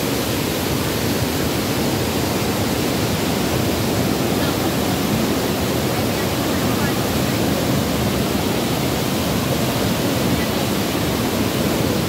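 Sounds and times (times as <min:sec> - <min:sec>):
water rushing over dam spillway: 0:00.0 - 0:12.0.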